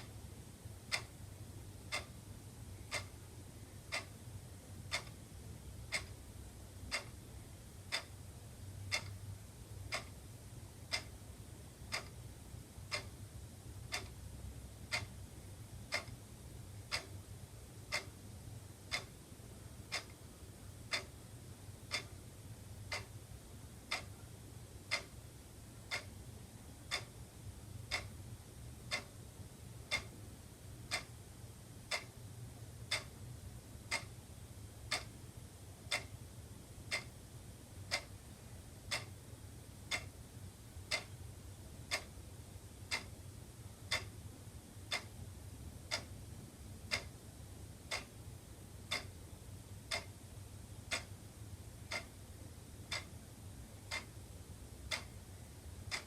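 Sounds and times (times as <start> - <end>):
wall clock ticking: 0.0 - 30.2, 30.8 - 31.2, 31.8 - 34.2, 34.8 - 47.2, 47.8 - 56.0
faint low hum: 0.0 - 56.0.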